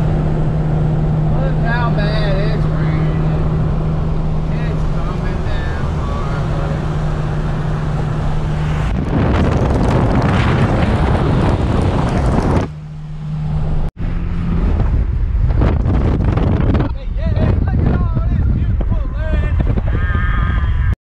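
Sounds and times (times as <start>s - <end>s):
car road and wind noise: 0.0s - 21.0s
low engine hum: 0.0s - 21.0s.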